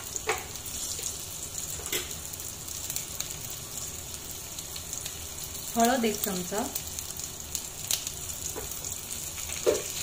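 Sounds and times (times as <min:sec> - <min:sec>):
hot oil sizzling in a pan: 0:00.0 - 0:10.0.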